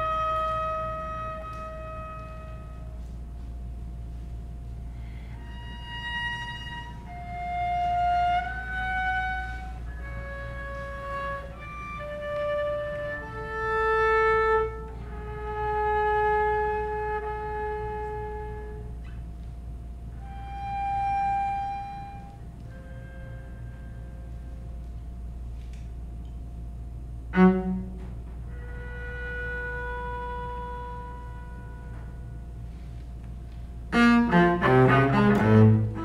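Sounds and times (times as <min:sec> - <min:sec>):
bowed cello melody: 0:00.0 - 0:36.0.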